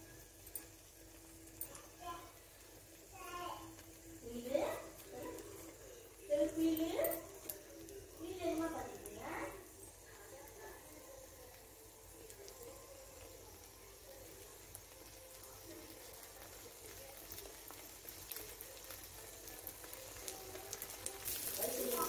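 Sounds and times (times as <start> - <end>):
omelet sizzling in oil: 0.0 - 22.0.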